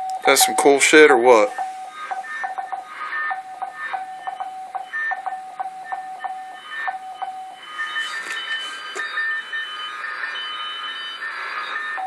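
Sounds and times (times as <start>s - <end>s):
fainter higher tone: 0.0s - 12.0s
morse code tone: 0.0s - 12.0s
steady higher whistles: 0.0s - 12.0s
radio band hiss: 0.2s - 12.0s.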